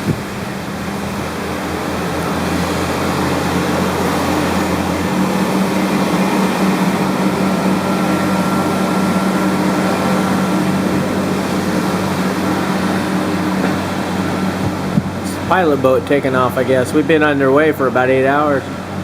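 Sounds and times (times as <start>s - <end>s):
faint steady whine: 0.0s - 19.0s
ship machinery and ventilation hum: 0.0s - 19.0s.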